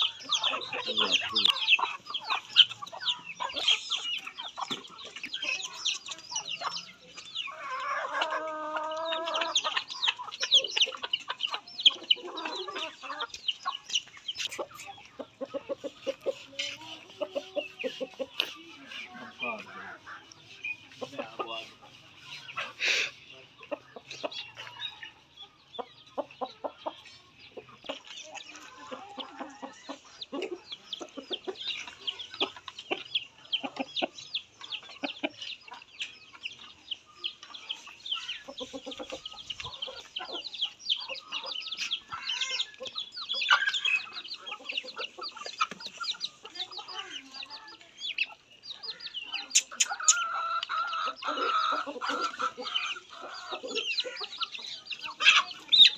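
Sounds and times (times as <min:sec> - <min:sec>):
chickens cheeping and clucking: 0:00.0 - 0:55.9.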